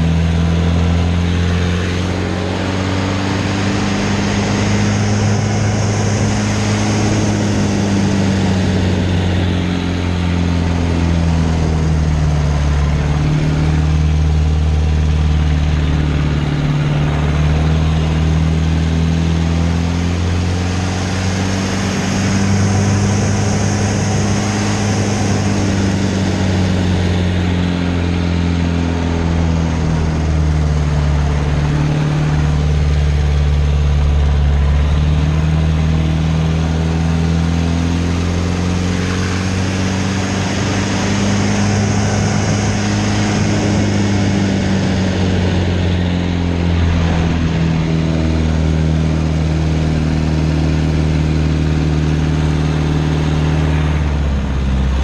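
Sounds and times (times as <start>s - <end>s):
plane engine and propeller droning: 0.0s - 55.0s.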